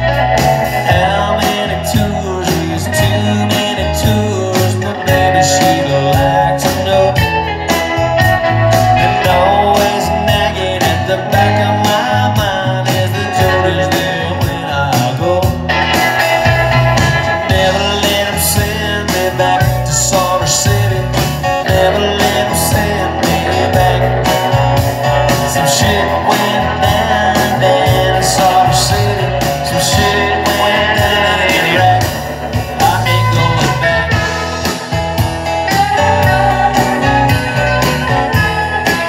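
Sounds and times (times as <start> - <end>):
bass guitar: 0.0 - 39.0
electric guitars: 0.0 - 39.0
steady drum beat: 0.0 - 39.0.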